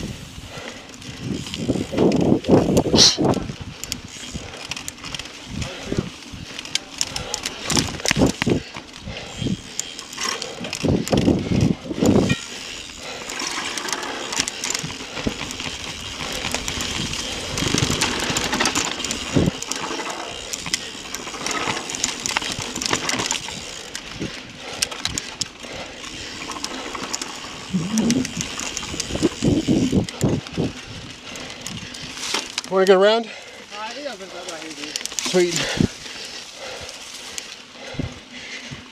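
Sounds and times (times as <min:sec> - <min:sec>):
bike rattling clicks and knocks: 0:00.0 - 0:38.9
bike tyres on dirt trail: 0:00.0 - 0:38.9.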